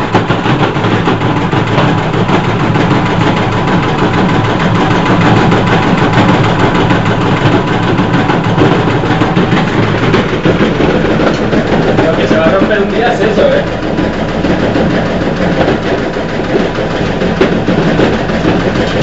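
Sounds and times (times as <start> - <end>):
washing machine spinning and rattling: 0.0 - 19.0.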